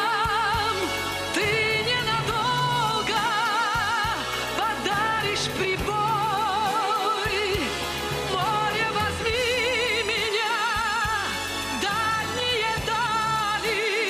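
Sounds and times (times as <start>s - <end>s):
instrumental pop song: 0.0s - 14.0s.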